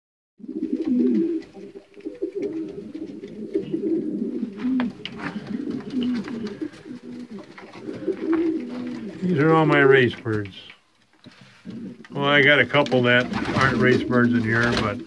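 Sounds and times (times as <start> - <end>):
pigeons cooing: 0.4 - 9.8, 11.5 - 15.0.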